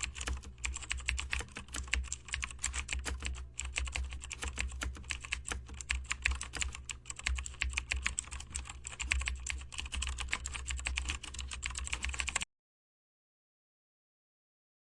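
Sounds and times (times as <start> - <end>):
low steady hum: 0.0 - 12.4
rapid keyboard typing: 0.0 - 12.5.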